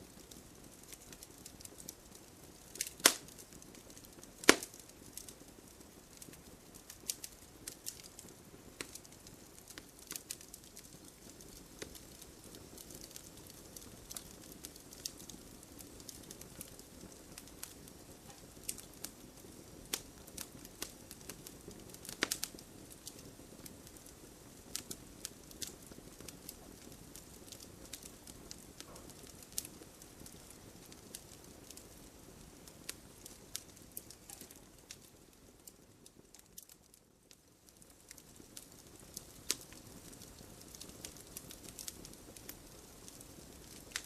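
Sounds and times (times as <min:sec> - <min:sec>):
low hiss of burning: 0:00.0 - 0:44.0
campfire pops and snaps: 0:00.2 - 0:44.0.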